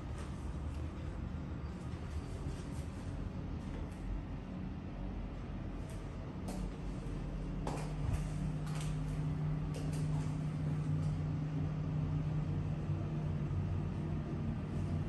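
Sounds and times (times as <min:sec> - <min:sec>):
ventilation hum: 0:00.0 - 0:15.0.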